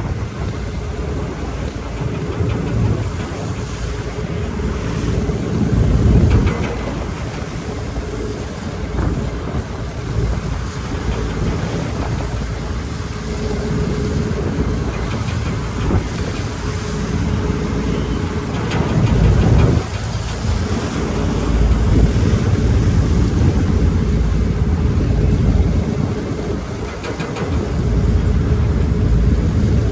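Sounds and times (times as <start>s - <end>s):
ship engine drone: 0.0s - 29.9s
wind rumbling on microphone: 0.0s - 29.9s.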